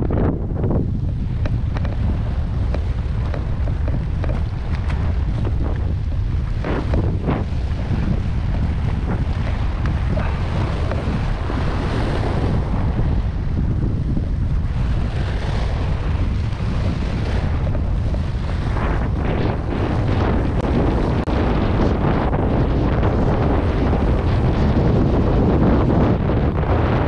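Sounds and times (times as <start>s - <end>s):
waves washing over rocks: 0.0s - 27.0s
wind buffeting microphone: 0.0s - 27.0s.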